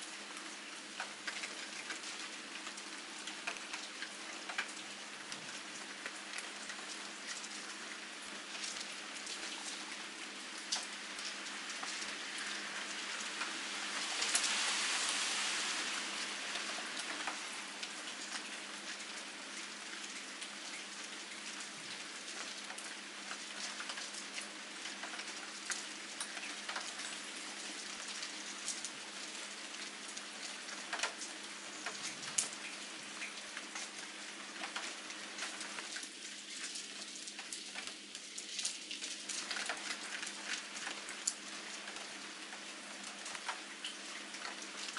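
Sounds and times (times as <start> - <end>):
rain falling on wet ground: 0.0 - 44.9.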